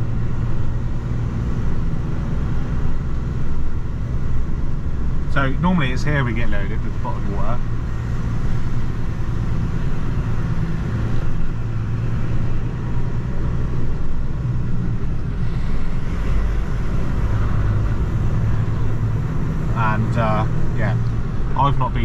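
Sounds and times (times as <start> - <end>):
diesel engine drone: 0.0 - 22.0
road noise: 0.0 - 22.0.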